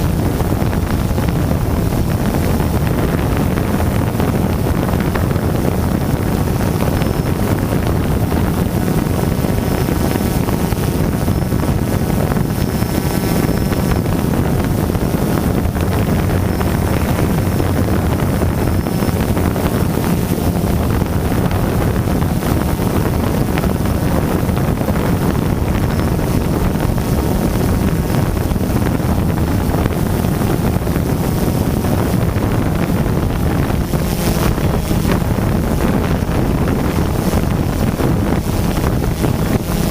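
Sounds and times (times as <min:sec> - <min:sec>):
drone propellers buzzing: 0:00.0 - 0:39.9
wind on microphone: 0:00.0 - 0:39.9.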